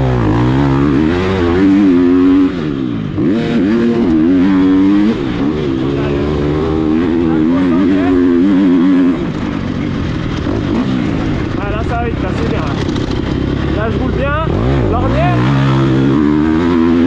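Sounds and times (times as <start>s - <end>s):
motorbike engine revving hard: 0.0s - 17.0s.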